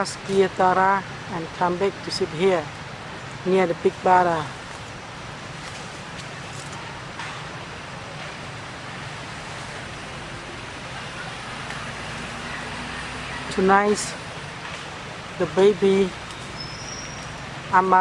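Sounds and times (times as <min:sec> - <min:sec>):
outdoor hiss and low rumble: 0:00.0 - 0:18.0.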